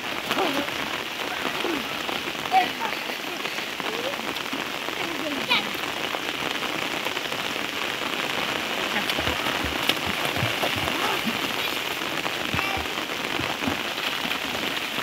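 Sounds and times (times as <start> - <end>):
raindrops striking close by: 0.0 - 15.0
steady rain hissing: 0.0 - 15.0.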